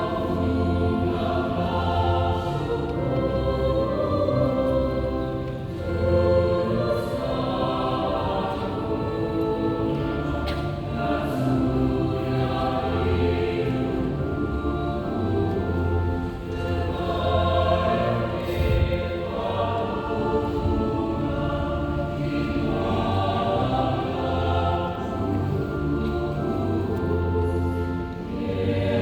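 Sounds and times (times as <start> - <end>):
choir singing sustained chords: 0.0 - 29.0.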